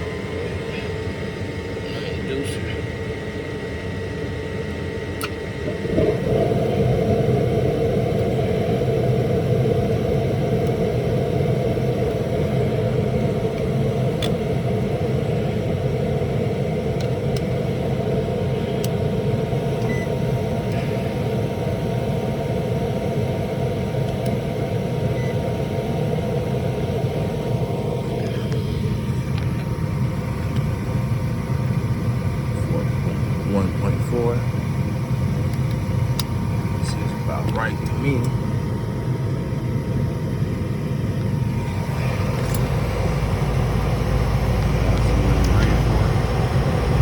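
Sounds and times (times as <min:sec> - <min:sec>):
furnace humming: 0:00.0 - 0:47.0.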